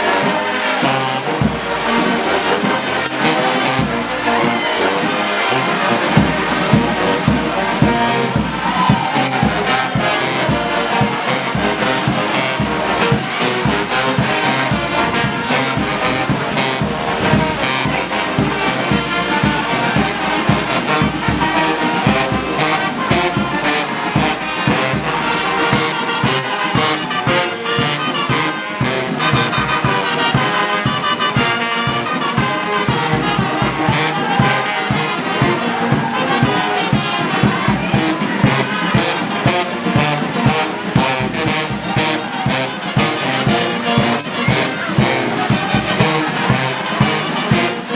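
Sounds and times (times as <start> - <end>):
brass band playing: 0.0 - 47.9.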